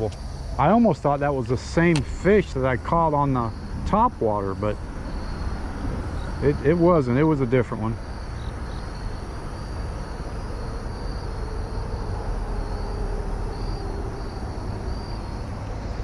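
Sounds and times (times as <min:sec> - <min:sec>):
insects trilling: 0:00.0 - 0:16.0
low outdoor rumble: 0:00.0 - 0:16.0.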